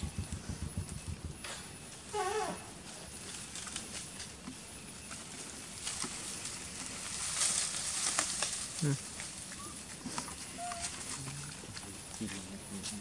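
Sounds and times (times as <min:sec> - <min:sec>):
leaves and branches rustling: 0:00.1 - 0:13.0.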